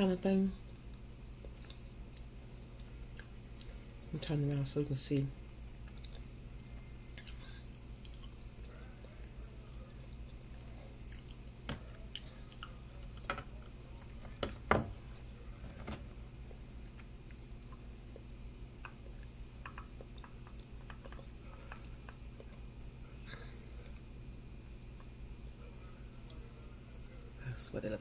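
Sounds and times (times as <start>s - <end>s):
low steady hum: 0.0s - 28.0s
soft chewing: 0.6s - 4.6s, 5.2s - 14.4s, 15.0s - 27.6s.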